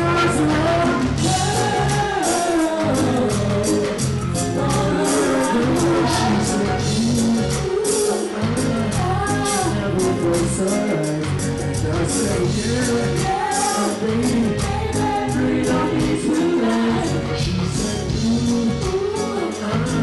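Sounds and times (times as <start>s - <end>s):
reggae band with singer: 0.0s - 20.0s.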